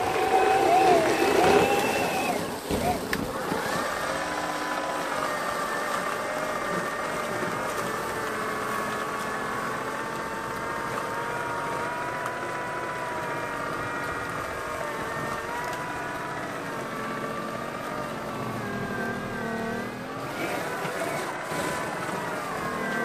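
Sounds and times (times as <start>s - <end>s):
snow blower motor whining: 0.0s - 23.0s.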